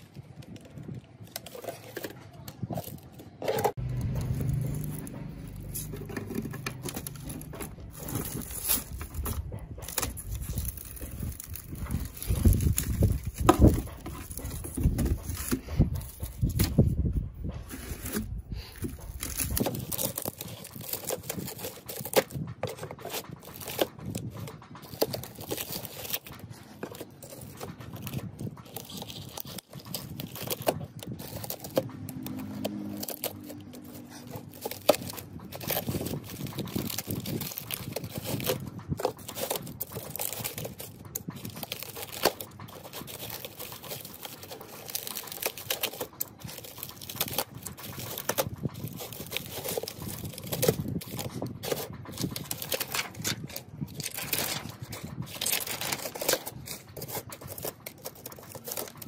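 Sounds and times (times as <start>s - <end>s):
crinkling: 0.0s - 59.0s
scraping: 0.4s - 59.0s.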